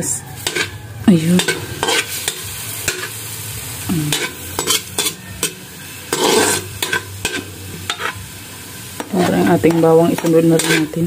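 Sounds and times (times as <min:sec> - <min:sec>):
metal spoon scraping wok: 0:00.0 - 0:11.0
onions sizzling in oil: 0:00.0 - 0:11.0.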